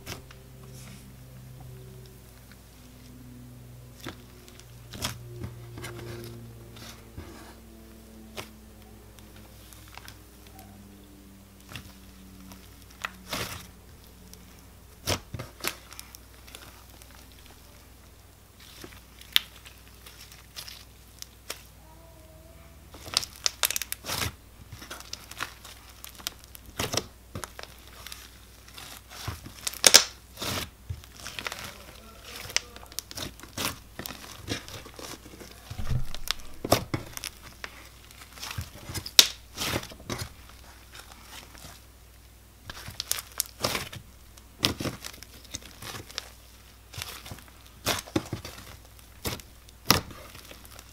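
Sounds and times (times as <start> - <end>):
slime crackling and popping: 3.8 - 7.6, 11.6 - 17.9, 18.6 - 22.0, 22.9 - 50.9.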